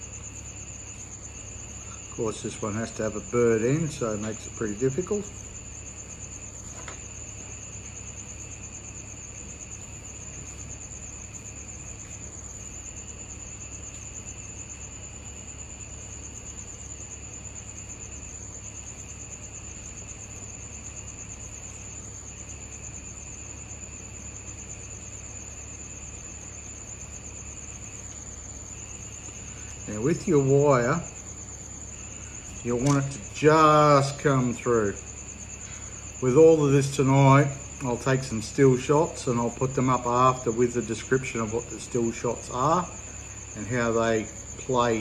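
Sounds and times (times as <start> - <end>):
faint low hum: 0.0 - 45.0
night insects trilling: 0.0 - 45.0.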